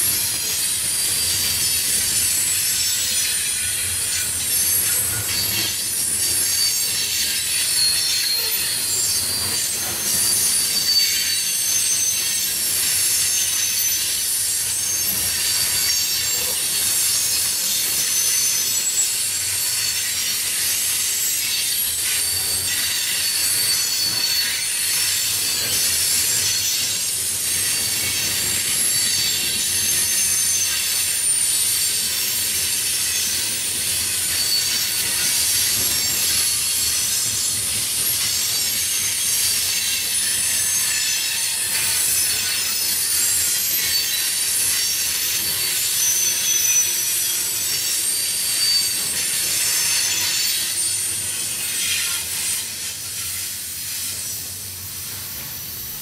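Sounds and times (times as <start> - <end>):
railroad cars rolling: 0.0 - 56.0
wheels squealing on rails: 0.0 - 56.0.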